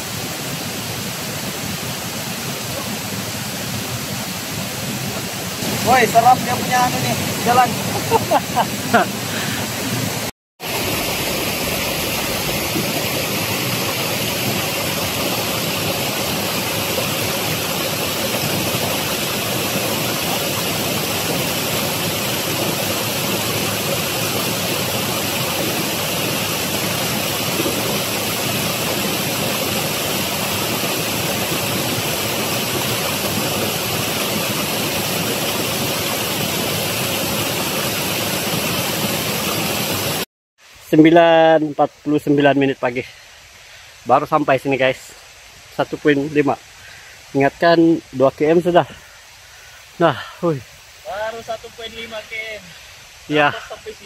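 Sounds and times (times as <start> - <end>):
rushing river water: 0.0 - 54.0.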